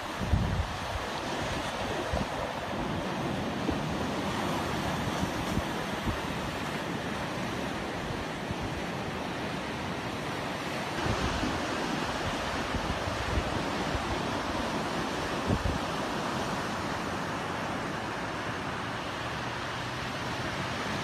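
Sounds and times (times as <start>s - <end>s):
wind rumbling on microphone: 0.0s - 18.2s
ocean surf breaking: 0.0s - 21.0s.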